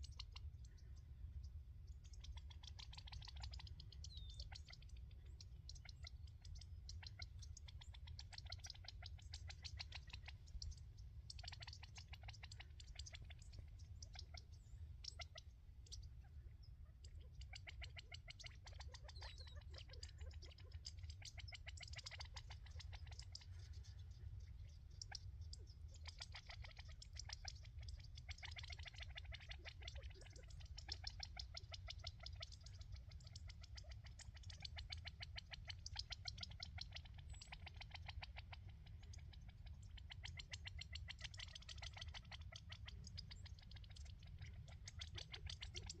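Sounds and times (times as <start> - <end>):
quail clicking calls: 0.0 - 46.0.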